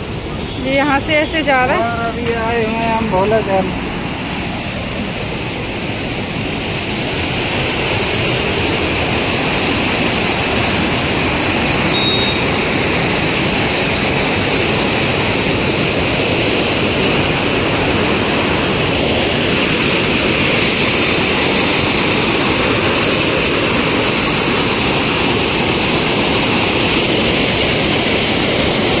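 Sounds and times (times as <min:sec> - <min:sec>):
water rushing through channel: 0:00.0 - 0:29.0.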